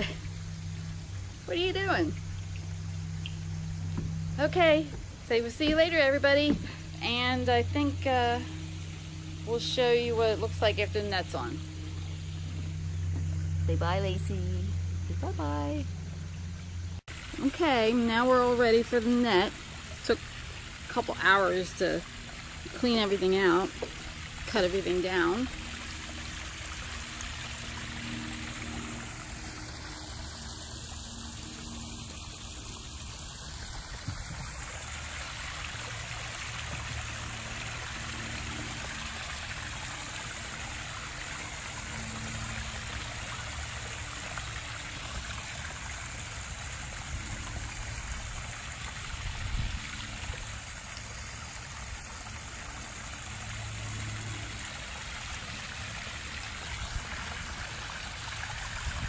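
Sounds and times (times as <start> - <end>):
small waterfall splashing into pond: 0.0 - 13.6, 14.9 - 59.0.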